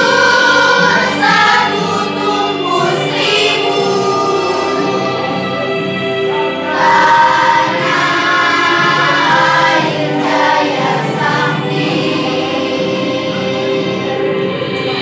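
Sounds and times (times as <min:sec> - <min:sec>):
choir of girls singing: 0:00.0 - 0:15.0.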